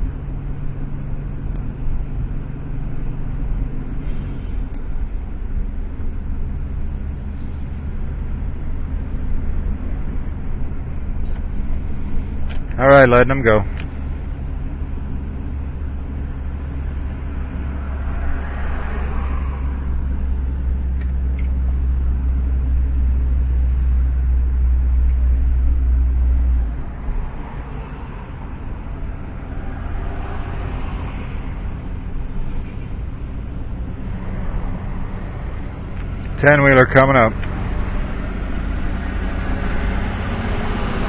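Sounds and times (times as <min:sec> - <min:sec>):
tyre and traffic noise: 0:00.0 - 0:41.0
vehicle engine and road rumble: 0:00.0 - 0:41.0.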